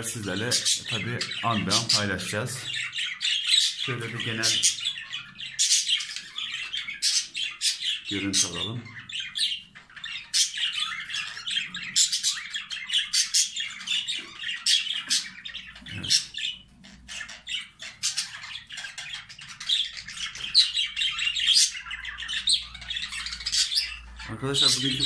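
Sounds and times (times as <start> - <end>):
budgerigars chirping: 0.0 - 25.0.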